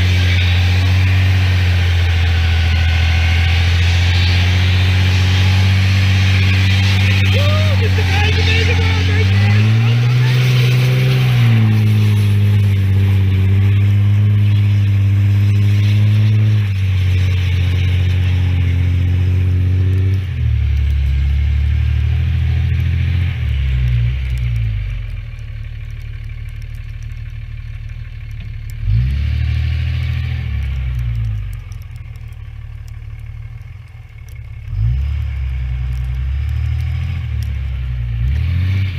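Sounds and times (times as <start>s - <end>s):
dirt bike engine running: 0.0s - 38.2s.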